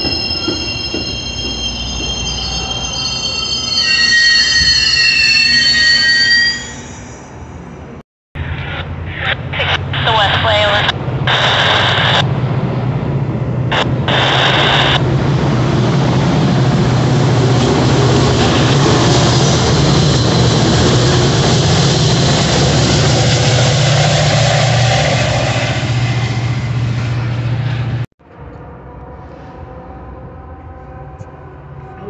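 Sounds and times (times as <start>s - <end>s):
diesel locomotive engine drone: 0.0s - 32.0s
train coaches rumbling past: 0.0s - 32.0s.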